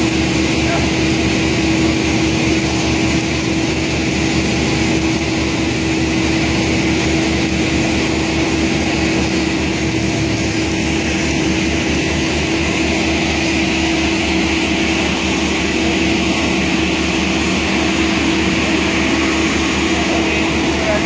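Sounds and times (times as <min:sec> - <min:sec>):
machinery drone with hum: 0:00.0 - 0:21.0.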